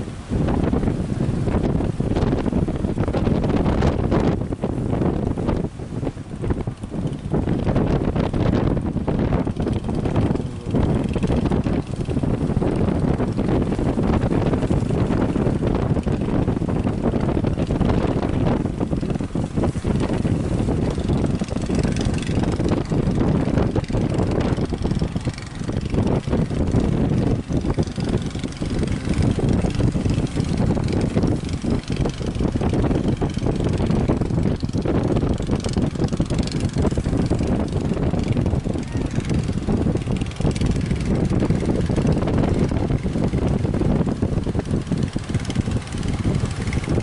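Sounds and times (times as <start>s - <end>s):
boat engine running: 0.0s - 47.0s
wind buffeting microphone: 0.0s - 47.0s.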